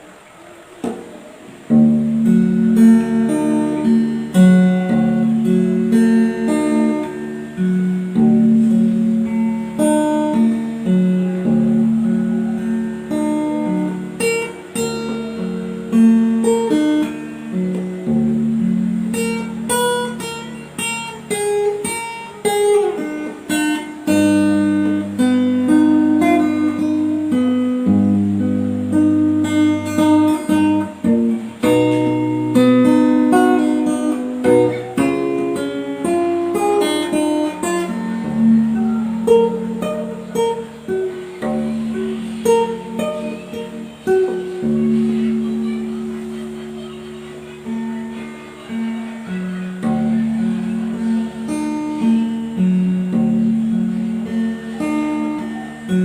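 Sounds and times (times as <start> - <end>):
plucked guitar melody: 0.0 - 56.0.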